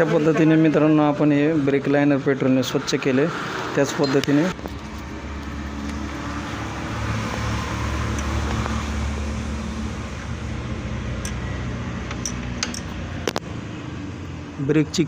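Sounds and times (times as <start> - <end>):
background hum and noise: 0.0 - 15.0.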